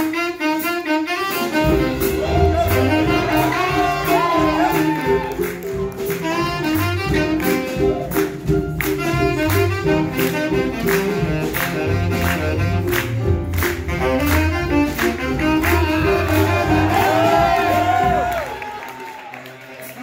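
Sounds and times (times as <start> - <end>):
jazz big band playing: 0.0 - 20.0
saxophone solo: 0.0 - 20.0.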